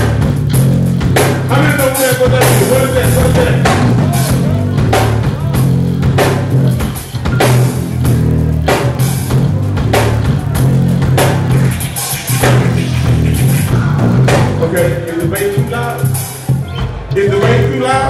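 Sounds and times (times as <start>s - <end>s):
drum kit hits: 0.0s - 18.0s
heavy bass guitar notes: 0.0s - 18.0s.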